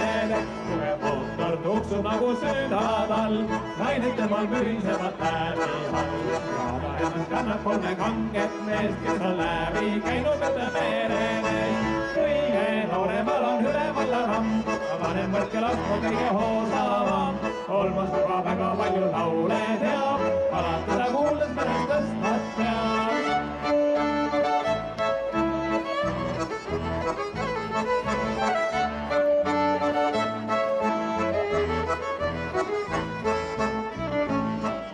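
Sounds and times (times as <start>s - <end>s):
instrumental music with bass rhythm: 0.0s - 34.9s.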